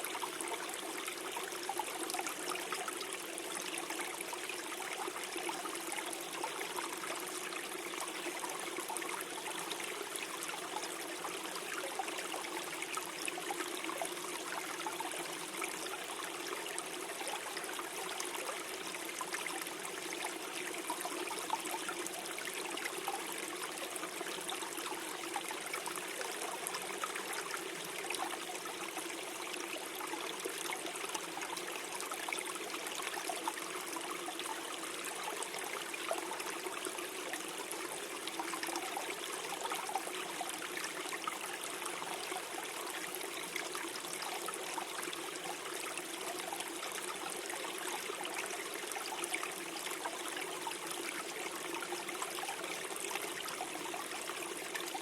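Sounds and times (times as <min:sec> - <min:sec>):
stream flowing and gurgling: 0:00.0 - 0:55.0.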